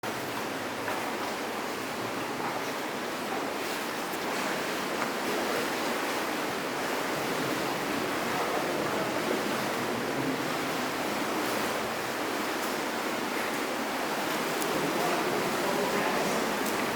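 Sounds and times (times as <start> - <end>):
rushing water: 0.0 - 16.9.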